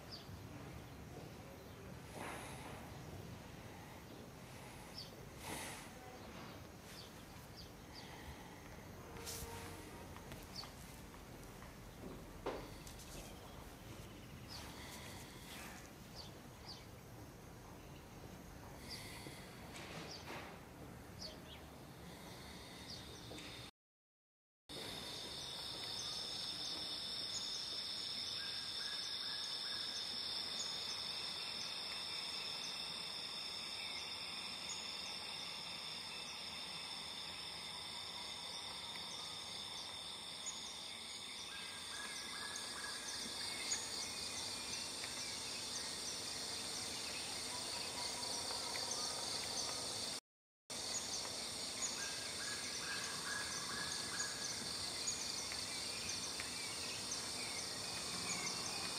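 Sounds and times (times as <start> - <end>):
insects droning in chorus: 1.1 - 20.4, 24.7 - 58.9.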